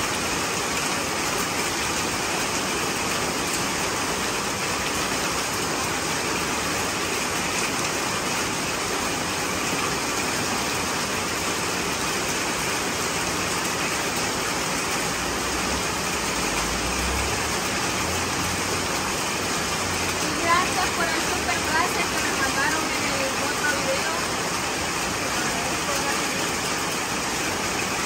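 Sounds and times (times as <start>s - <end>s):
heavy rain on concrete: 0.0s - 28.0s.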